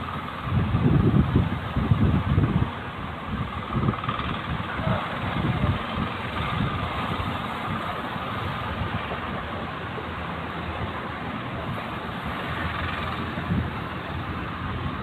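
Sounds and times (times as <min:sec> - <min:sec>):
boat engine running: 0:00.0 - 0:15.0
sea noise: 0:00.0 - 0:15.0
wind: 0:00.0 - 0:15.0.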